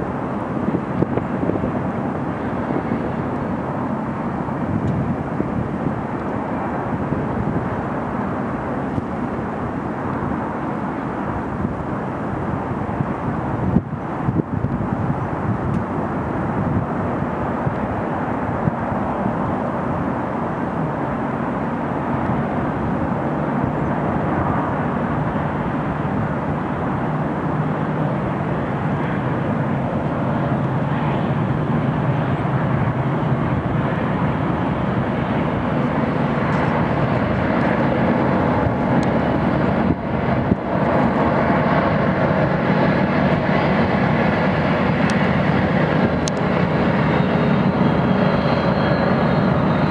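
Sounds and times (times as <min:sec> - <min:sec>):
diesel locomotive engine hum: 0:00.0 - 0:49.9.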